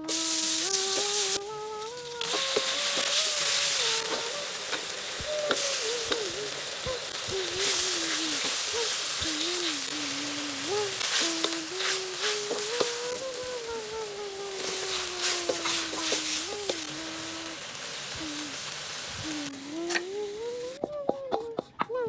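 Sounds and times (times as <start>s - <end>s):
vegetables sizzling in a wok: 0.0s - 21.6s.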